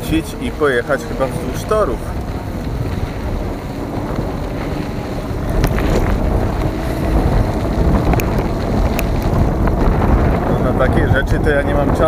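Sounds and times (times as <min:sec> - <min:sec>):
low steady rumble: 0:00.0 - 0:12.0
wind buffeting microphone: 0:00.0 - 0:12.0.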